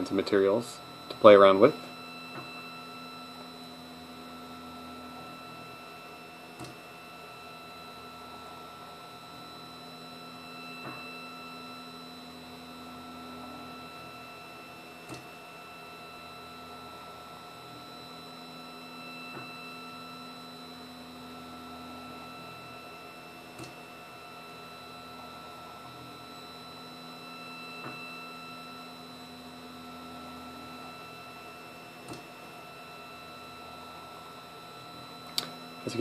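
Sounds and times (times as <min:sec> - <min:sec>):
stepper motors and fan whining: 0:00.0 - 0:36.0.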